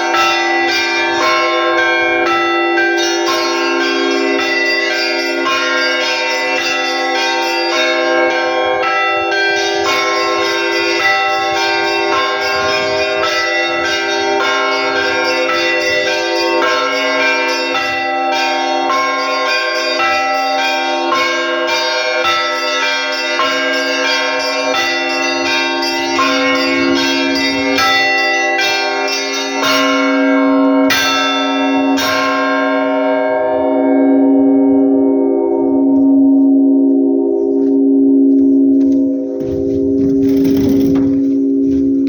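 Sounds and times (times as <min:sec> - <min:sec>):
church bells pealing: 0:00.0 - 0:42.0.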